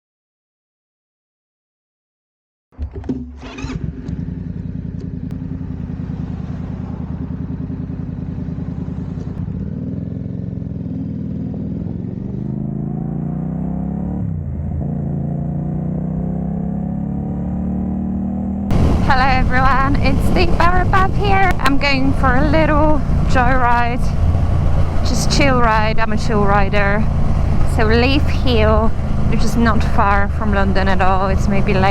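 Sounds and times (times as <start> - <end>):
motorcycle engine accelerating: 2.8 - 31.9.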